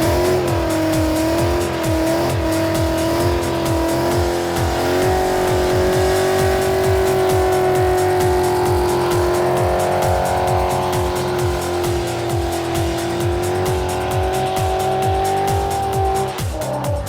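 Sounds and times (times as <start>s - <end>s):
car engine at high revs: 0.0s - 17.0s
music with steady beat: 0.0s - 17.0s
tires squealing: 0.0s - 17.0s.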